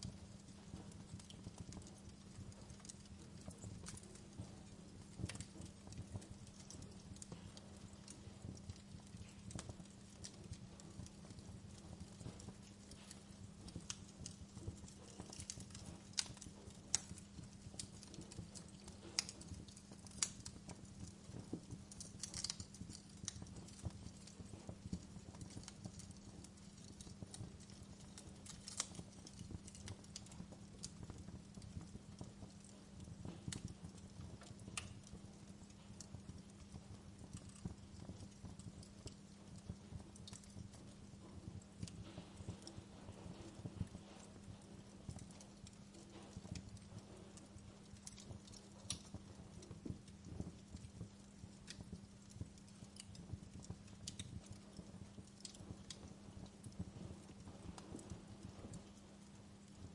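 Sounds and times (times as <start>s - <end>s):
low rumble of burning: 0.0s - 59.9s
wood fire crackling: 0.0s - 59.9s.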